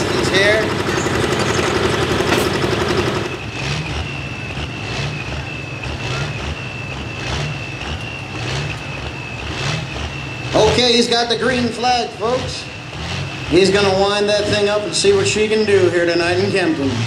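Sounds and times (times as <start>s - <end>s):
diesel engine idling: 0.0s - 17.0s
tractor diesel engine running: 0.0s - 17.0s.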